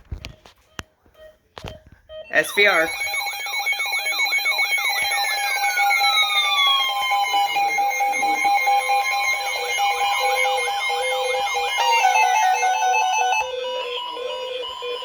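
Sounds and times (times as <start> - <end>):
steady beeping tones: 2.1 - 15.0
swooping warble alarm: 2.2 - 15.0
tone sliding downward: 2.4 - 15.0.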